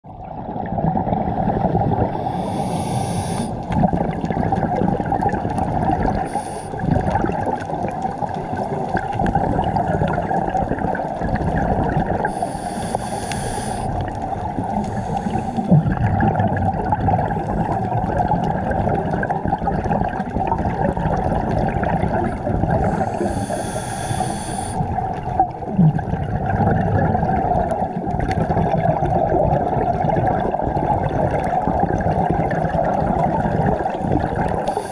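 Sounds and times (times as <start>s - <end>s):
scuba bubbles rushing: 0.1s - 34.9s
muffled underwater noise: 1.0s - 34.9s.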